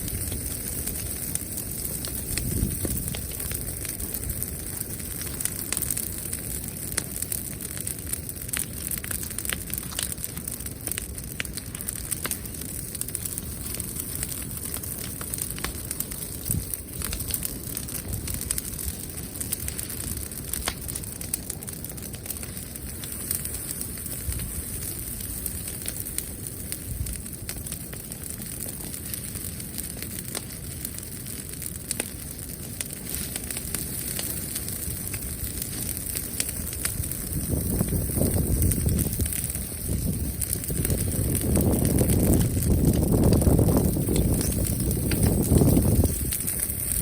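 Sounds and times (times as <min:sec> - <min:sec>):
bonfire crackling and popping: 0:00.0 - 0:47.0.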